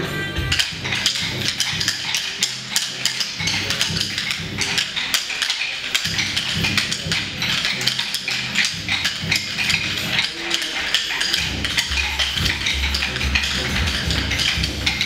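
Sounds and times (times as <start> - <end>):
recorded music: 0.0 - 15.0
wooden sticks clacking: 0.5 - 15.0.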